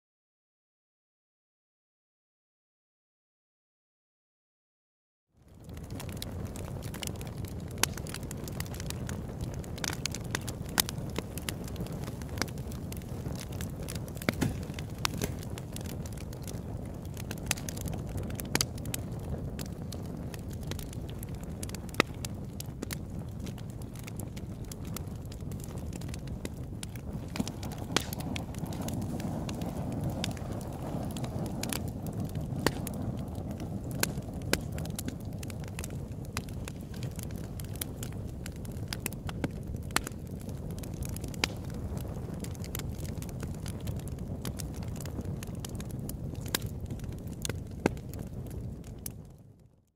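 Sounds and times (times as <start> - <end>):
fire crackling and popping: 5.4 - 49.9
low fire rumble: 5.4 - 49.9.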